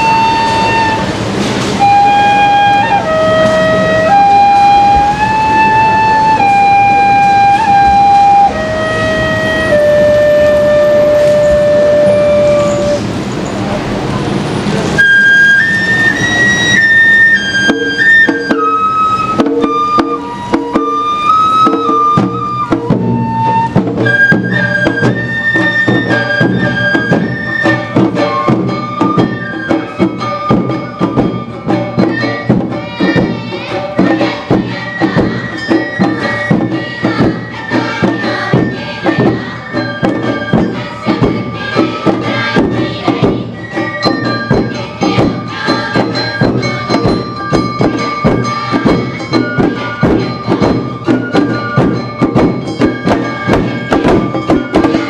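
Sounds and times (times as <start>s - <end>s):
bamboo flutes melody: 0.0s - 13.8s, 14.7s - 55.0s
drums beating: 0.0s - 55.0s.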